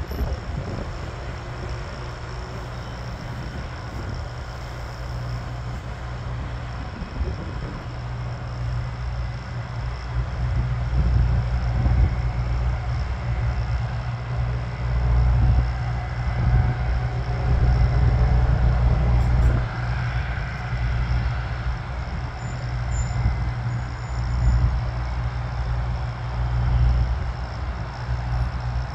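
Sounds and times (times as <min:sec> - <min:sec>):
jet engines whining: 0:00.0 - 0:26.2.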